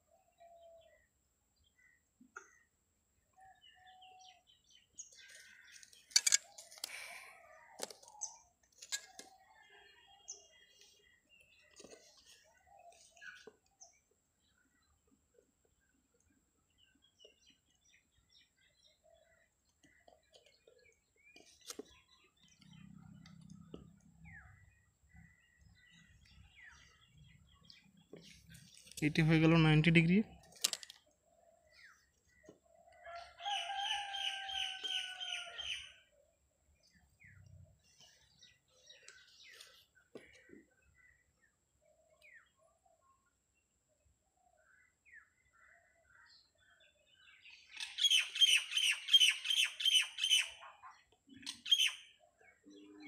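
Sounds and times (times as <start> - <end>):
faint bird chirps: 0.0 - 53.0.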